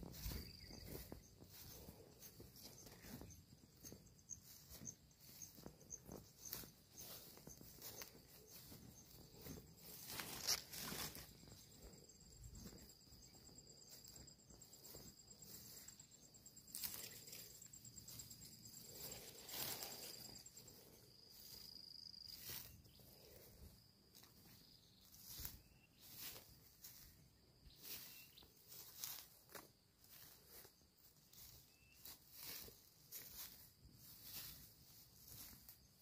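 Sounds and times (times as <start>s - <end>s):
faint footsteps in undergrowth: 0.0s - 36.0s
high insect trill: 0.0s - 36.0s.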